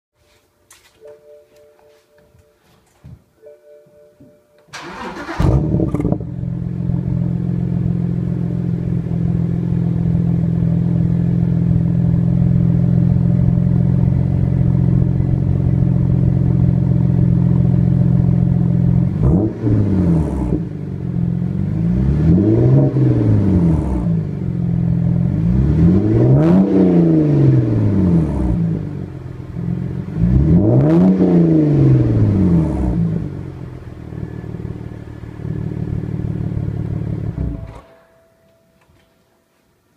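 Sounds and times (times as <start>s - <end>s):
car engine idling and revving: 4.8s - 37.8s.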